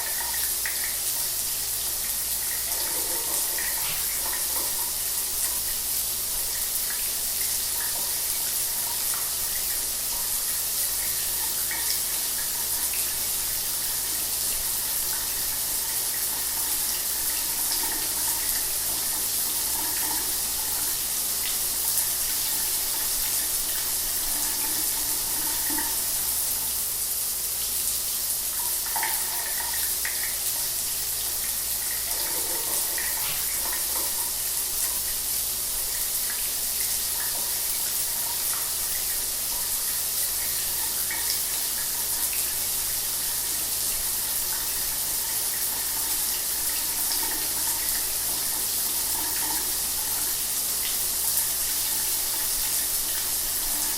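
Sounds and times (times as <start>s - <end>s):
shower water running: 0.0s - 53.9s.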